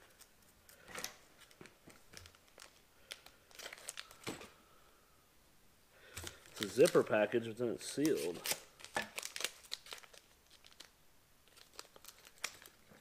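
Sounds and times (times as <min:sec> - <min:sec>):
plastic package crinkling: 0:00.1 - 0:04.4, 0:06.1 - 0:07.2, 0:08.0 - 0:13.0.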